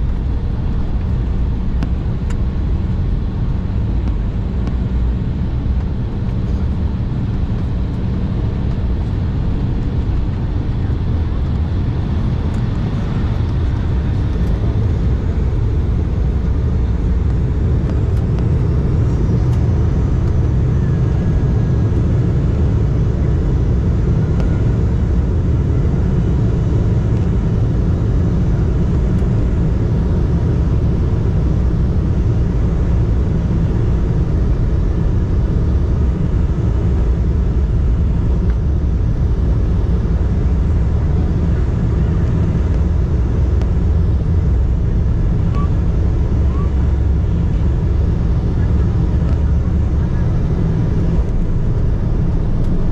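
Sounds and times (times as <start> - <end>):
jet cabin engine rumble: 0.0 - 52.9.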